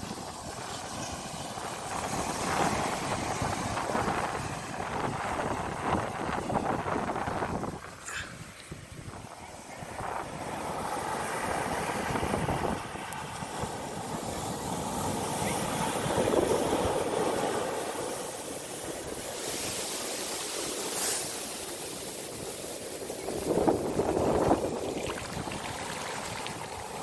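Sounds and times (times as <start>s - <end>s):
sea waves breaking on shore: 0.0s - 27.0s.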